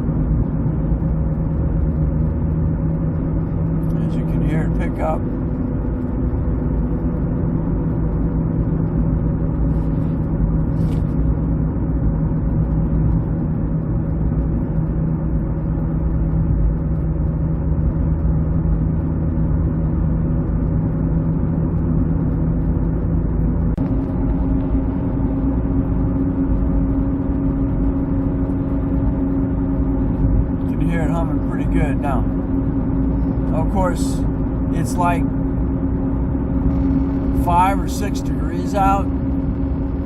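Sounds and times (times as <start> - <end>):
car humming while driving: 0.0 - 40.0
road rumble: 0.0 - 40.0.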